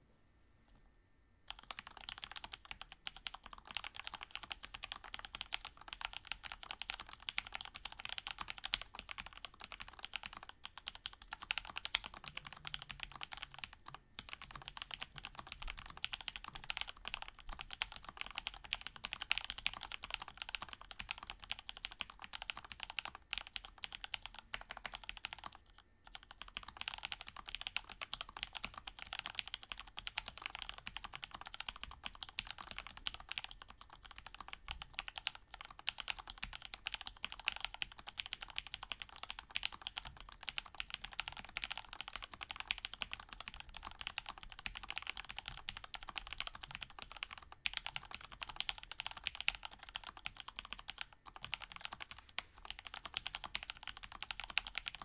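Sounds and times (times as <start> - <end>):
mechanical keyboard typing: 1.5 - 55.0.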